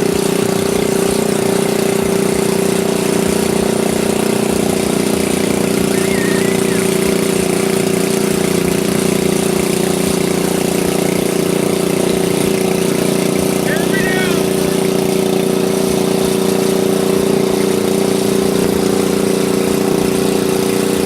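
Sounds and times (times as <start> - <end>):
tractor engine running loudly: 0.0 - 21.0.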